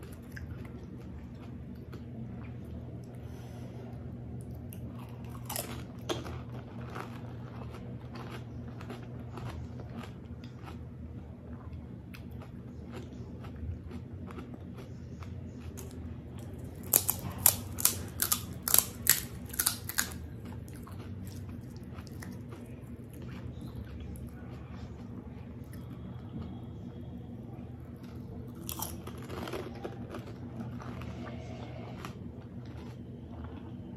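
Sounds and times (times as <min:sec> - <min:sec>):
wet chewing crunches: 0:04.3 - 0:26.6, 0:27.8 - 0:33.9.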